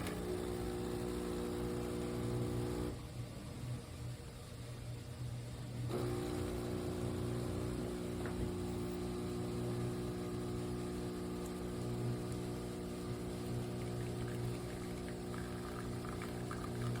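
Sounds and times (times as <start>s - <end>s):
espresso machine pump buzzing: 0.0s - 3.0s, 5.9s - 17.0s.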